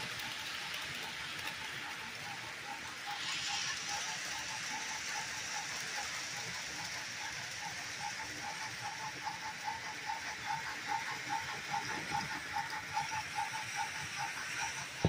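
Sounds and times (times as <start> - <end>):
toy train motor whirring: 0.0 - 15.0.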